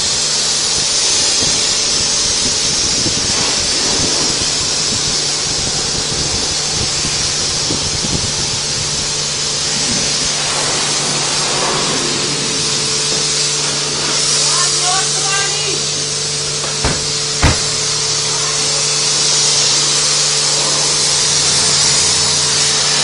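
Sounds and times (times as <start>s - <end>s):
high pressure water spraying: 0.0s - 23.0s.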